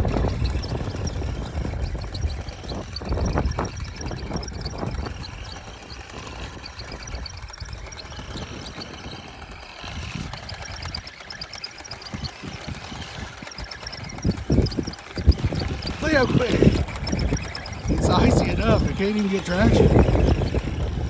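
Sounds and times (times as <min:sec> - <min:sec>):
light rapid ticking: 0:00.0 - 0:21.0
toy motor and tracks rumbling: 0:00.0 - 0:21.0.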